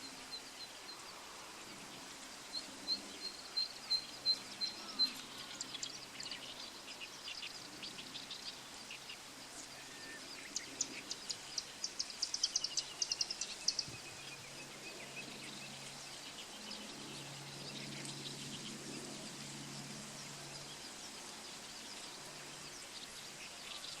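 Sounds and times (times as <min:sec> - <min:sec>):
reed warbler singing: 0:00.0 - 0:24.0.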